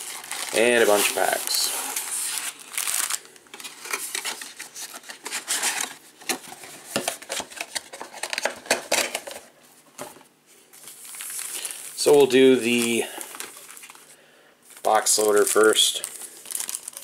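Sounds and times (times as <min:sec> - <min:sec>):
foil card packs crinkling and tapping: 0:00.0 - 0:10.2, 0:10.8 - 0:14.1, 0:14.7 - 0:17.0.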